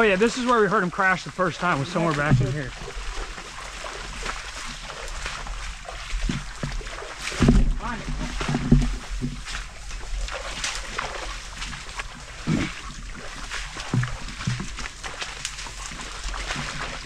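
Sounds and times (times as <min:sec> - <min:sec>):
footsteps through tall grass: 0:00.0 - 0:17.0.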